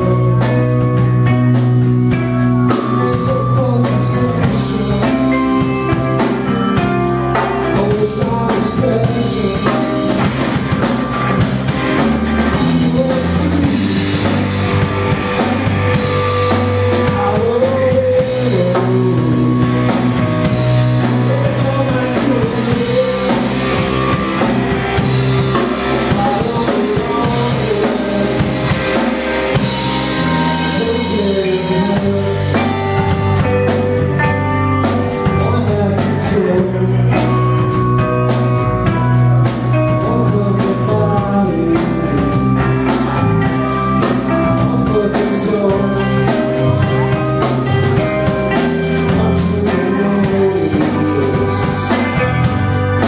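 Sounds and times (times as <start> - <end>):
bass guitar: 0.0 - 53.0
drum kit: 0.0 - 53.0
electric guitar: 0.0 - 53.0.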